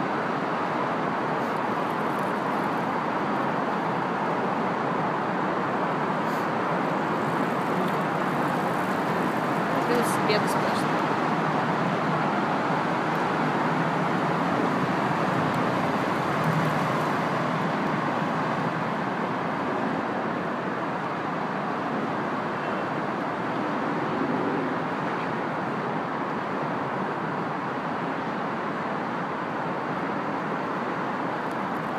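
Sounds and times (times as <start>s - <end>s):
road traffic rushing hum: 0.0s - 31.9s.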